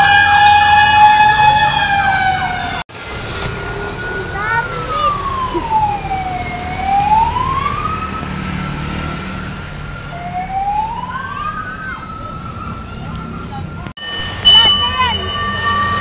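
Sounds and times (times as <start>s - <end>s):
fire truck siren wailing: 0.0s - 16.0s
road traffic rumble: 0.0s - 16.0s.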